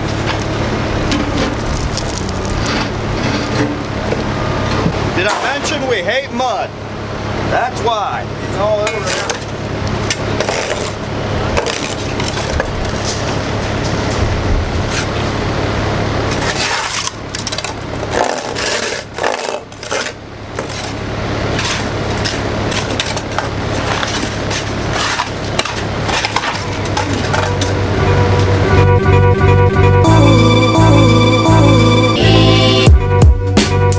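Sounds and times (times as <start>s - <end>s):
heavy machine engine running: 0.0s - 33.9s.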